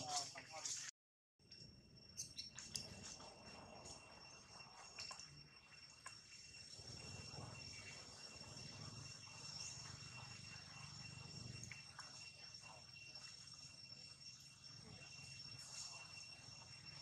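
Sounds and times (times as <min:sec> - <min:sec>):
insect trilling: 0:01.9 - 0:17.0.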